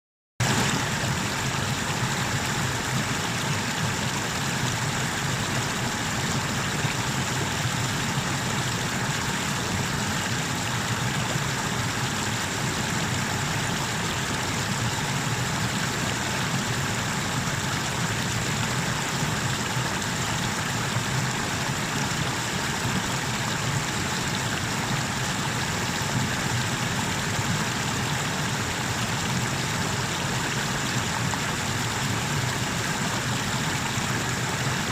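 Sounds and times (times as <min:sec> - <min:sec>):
water rushing over waterfall: 0:00.4 - 0:34.9.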